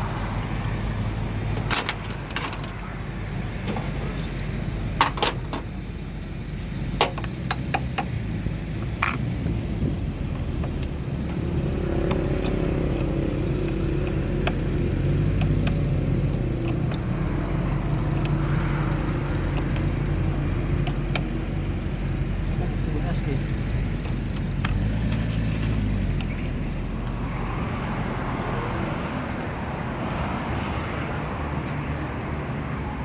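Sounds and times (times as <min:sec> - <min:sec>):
vehicle engine rumble: 0:00.0 - 0:33.0.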